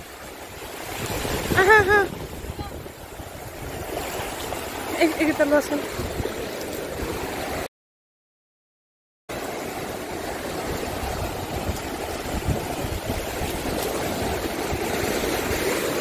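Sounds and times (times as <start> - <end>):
sea surf washing over sand: 0.0 - 7.7, 9.3 - 16.0.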